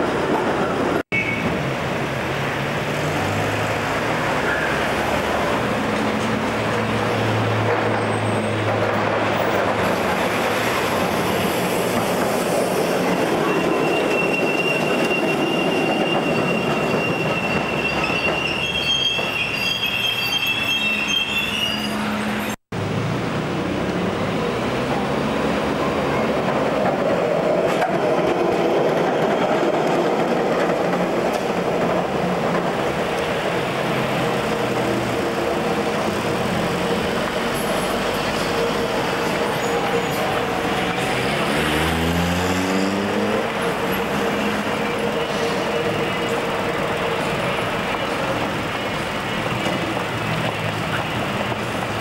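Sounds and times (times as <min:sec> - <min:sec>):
street traffic: 0:00.0 - 0:52.0
tram running past: 0:00.0 - 0:52.0
steel wheels squealing on rails: 0:04.2 - 0:22.6, 0:25.0 - 0:52.0.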